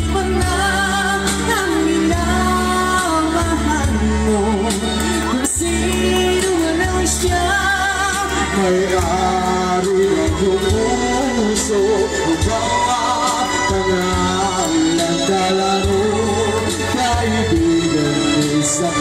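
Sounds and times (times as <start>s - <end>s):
instrumental backing music: 0.0s - 19.0s
person singing with vibrato: 0.0s - 19.0s.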